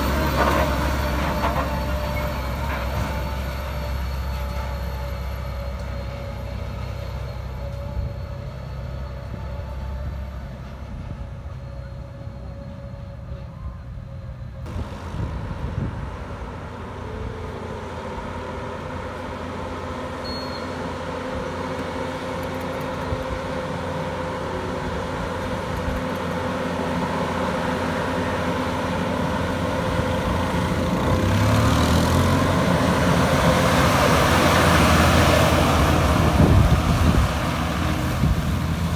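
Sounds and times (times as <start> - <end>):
tyre and road noise: 0.0 - 11.7, 12.8 - 38.9
diesel truck engine running: 0.0 - 13.2, 13.8 - 38.9
truck passing by: 0.0 - 38.9.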